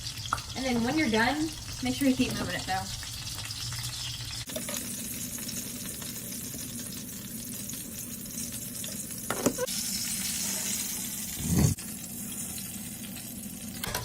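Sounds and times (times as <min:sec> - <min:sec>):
dumplings sizzling in oil: 0:00.0 - 0:14.0.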